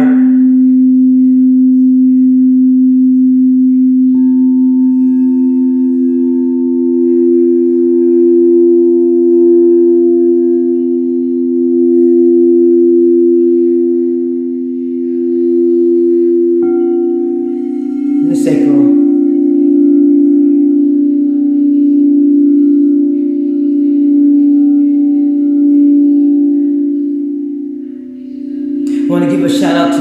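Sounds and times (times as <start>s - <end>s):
high singing bowl tone: 0.0s - 30.0s
low singing bowl tone: 0.0s - 30.0s.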